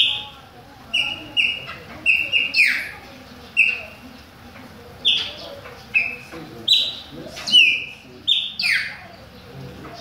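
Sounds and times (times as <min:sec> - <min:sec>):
blackbirds whistling: 0:00.0 - 0:04.2, 0:05.0 - 0:10.0.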